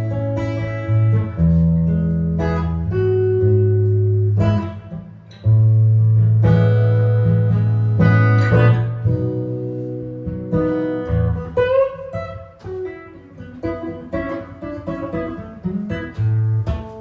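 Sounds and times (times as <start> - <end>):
jazz guitar chords: 0.0 - 17.0.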